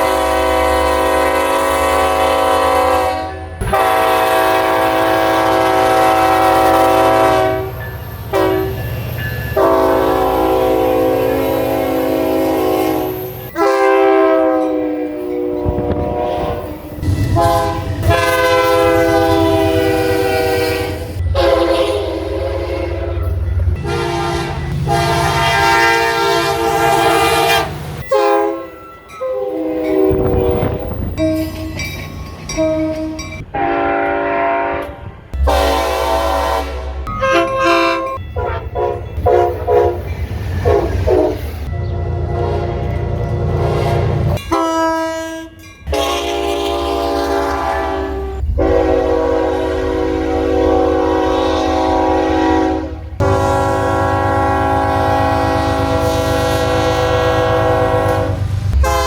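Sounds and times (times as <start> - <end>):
train air horn blasts: 0.0 - 8.8, 9.5 - 31.4, 32.6 - 59.0
low train rumble: 0.0 - 59.0.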